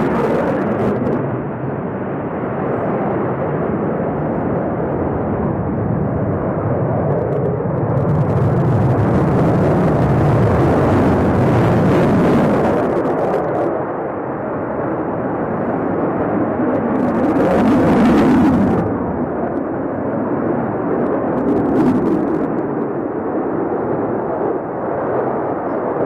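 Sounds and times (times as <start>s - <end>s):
loud jet engine noise: 0.0s - 26.0s.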